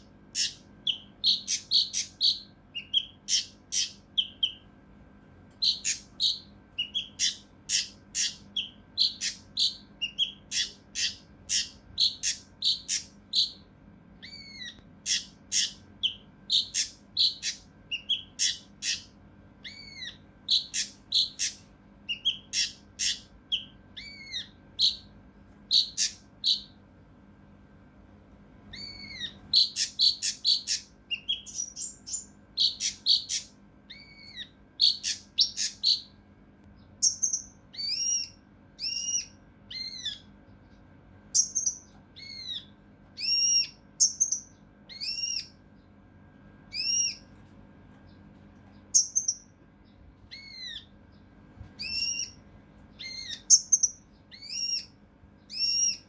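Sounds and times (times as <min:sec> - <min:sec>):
songbird calling: 0:00.0 - 0:04.7, 0:05.6 - 0:25.1, 0:25.7 - 0:26.8, 0:28.7 - 0:36.2, 0:37.0 - 0:40.3, 0:41.3 - 0:45.6, 0:46.7 - 0:47.3, 0:48.8 - 0:51.2, 0:51.8 - 0:56.0
faint steady hum: 0:00.0 - 0:56.0.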